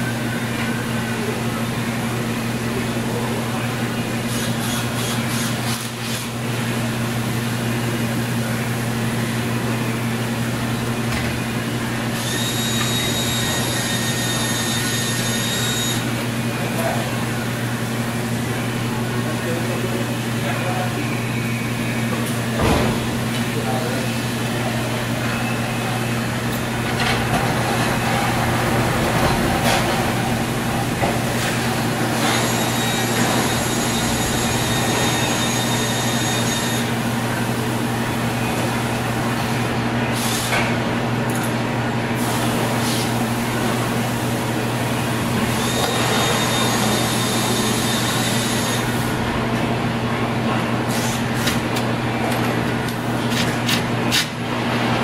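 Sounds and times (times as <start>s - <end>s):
compressor hum: 0.0s - 55.0s
condenser fan noise: 0.0s - 55.0s.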